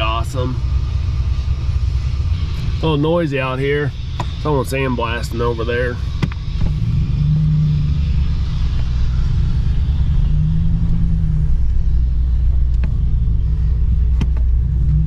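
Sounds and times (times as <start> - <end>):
low hum: 0.0 - 15.0
sandblasting rumble and hiss: 0.0 - 15.0.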